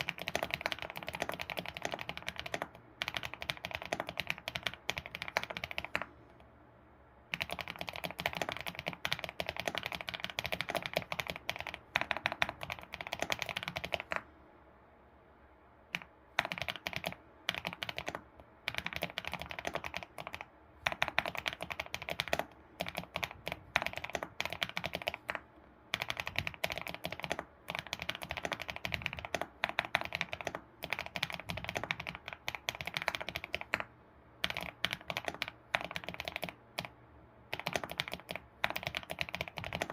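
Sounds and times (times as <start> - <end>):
keyboard typing: 0.0 - 6.4, 7.3 - 14.3, 15.9 - 39.9.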